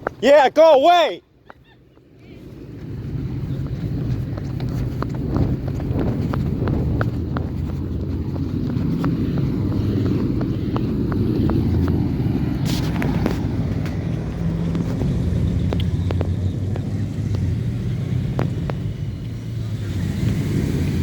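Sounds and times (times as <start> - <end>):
car engine running: 2.7 - 21.0.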